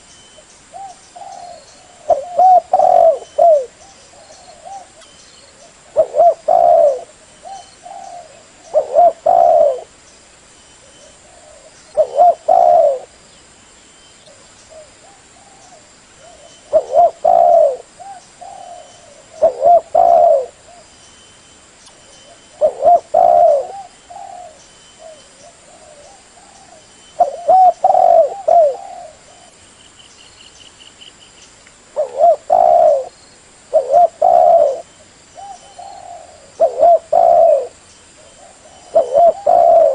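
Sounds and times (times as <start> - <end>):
dove cooing: 0.7 - 9.9, 10.9 - 13.2, 14.3 - 20.9, 22.2 - 29.6, 32.0 - 33.1, 33.7 - 39.9.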